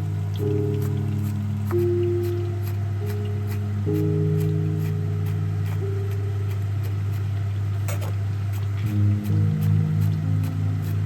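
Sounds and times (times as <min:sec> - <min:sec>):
held notes: 0:00.0 - 0:11.0.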